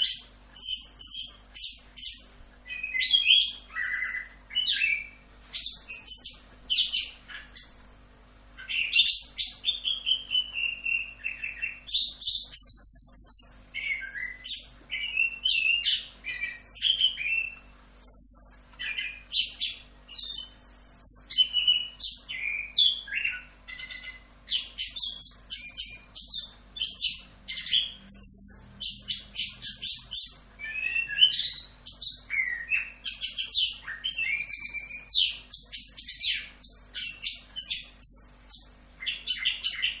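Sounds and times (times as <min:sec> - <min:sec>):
thrush singing chirps and whistles: 0:00.0 - 0:07.9, 0:08.6 - 0:40.0.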